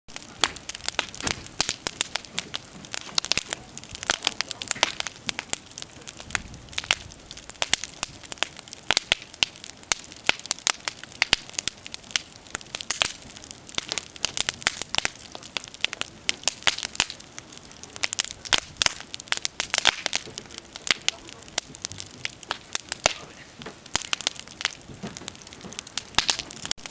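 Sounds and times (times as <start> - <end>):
wood fire crackling and popping: 0.1 - 26.9.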